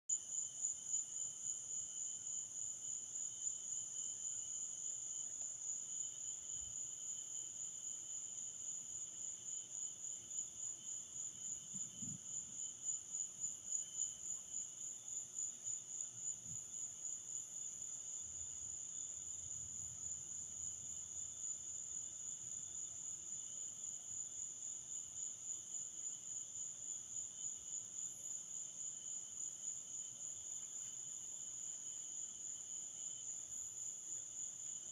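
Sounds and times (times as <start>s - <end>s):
low insect call: 0.1s - 34.9s.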